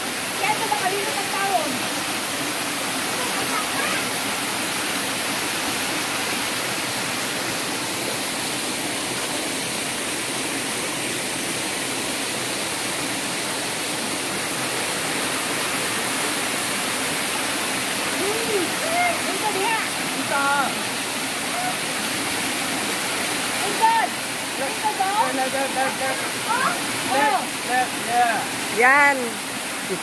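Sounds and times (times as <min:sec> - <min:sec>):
waterfall rushing into rock pool: 0:00.0 - 0:30.0.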